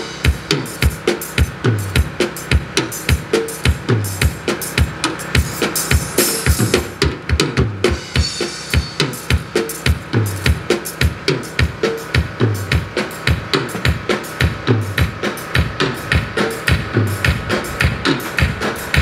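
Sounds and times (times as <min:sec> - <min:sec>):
drum kit fast beat: 0:00.0 - 0:19.0.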